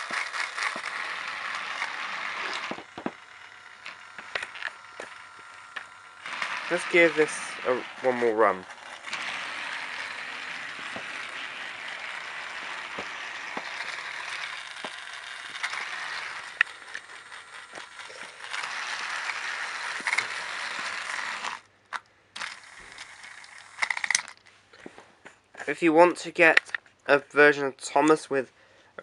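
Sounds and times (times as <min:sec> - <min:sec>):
toy train motor whirring: 0:00.0 - 0:24.4.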